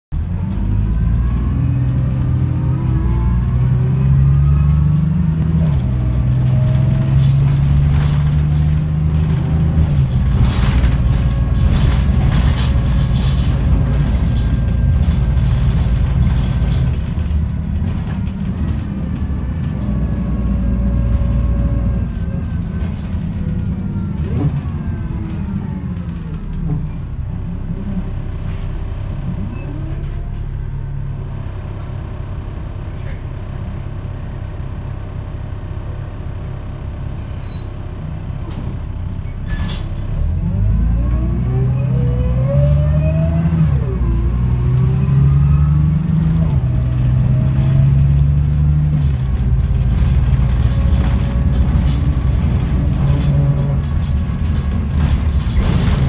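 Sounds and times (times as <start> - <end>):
bus engine whining: 0.2 - 56.0.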